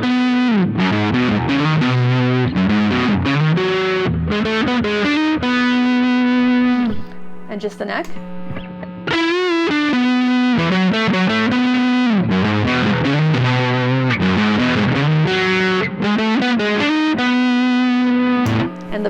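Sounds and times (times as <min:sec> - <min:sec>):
distorted electric guitar lead: 0:00.0 - 0:19.0.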